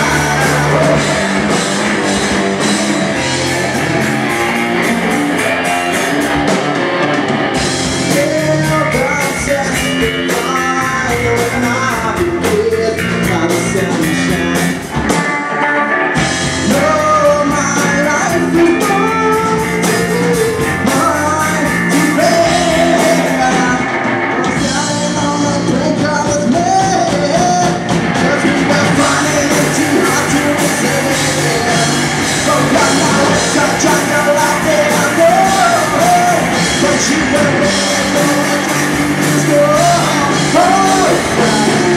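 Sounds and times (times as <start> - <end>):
rock band with singer: 0.0 - 41.9.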